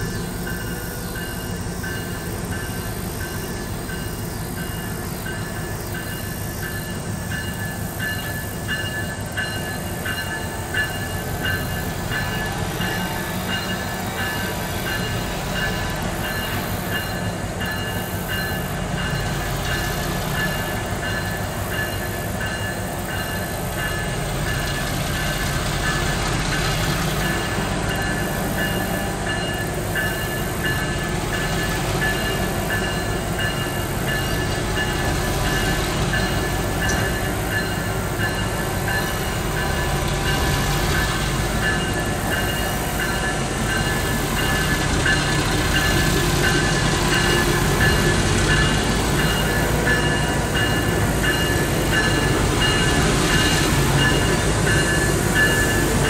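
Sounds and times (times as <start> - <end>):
diesel locomotive engine rumble: 0.0 - 56.0
wheel and rail noise: 0.0 - 56.0.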